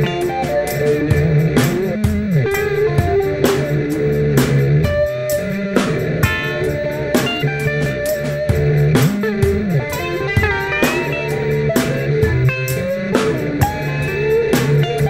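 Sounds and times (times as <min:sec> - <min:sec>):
bass guitar: 0:00.0 - 0:15.0
electric guitar: 0:00.0 - 0:15.0
steady beat: 0:00.0 - 0:15.0.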